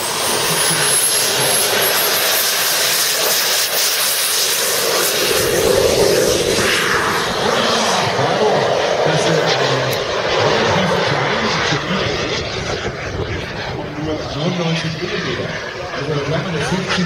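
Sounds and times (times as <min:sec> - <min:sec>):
model jet turbine engine whine: 0:00.0 - 0:17.0.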